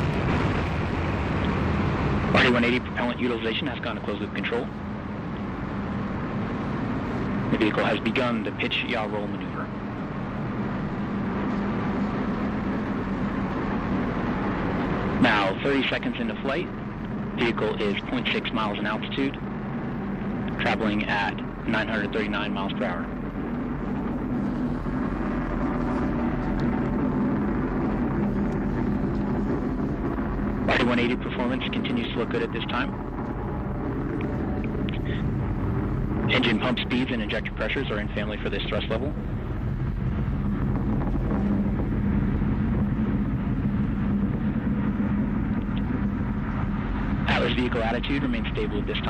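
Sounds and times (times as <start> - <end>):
rocket engine roaring: 0.0 - 49.0.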